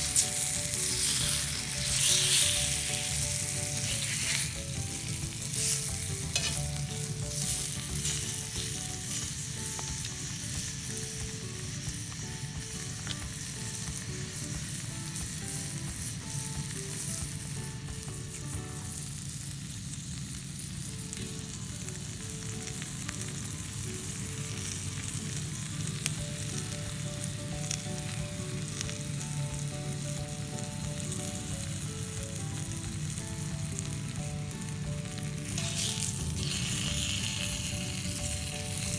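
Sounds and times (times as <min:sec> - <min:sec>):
mushrooms sizzling in oil: 0:00.0 - 0:38.9.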